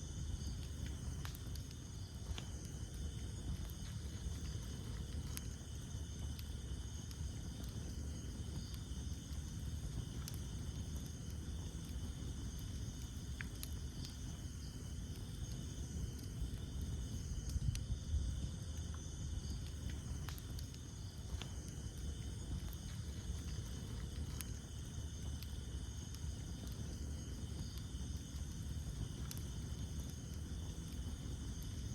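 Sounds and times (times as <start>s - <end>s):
low rumble of flames: 0.0s - 31.9s
night insects chirping: 0.0s - 31.9s
wood crackling and popping: 0.0s - 31.9s.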